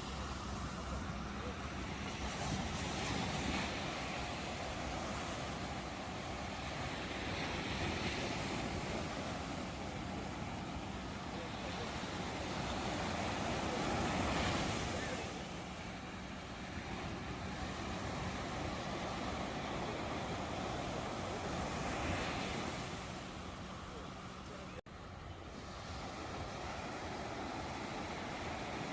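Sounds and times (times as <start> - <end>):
large wave breaking: 0.0 - 24.6
waves washing onto shore: 0.0 - 28.9.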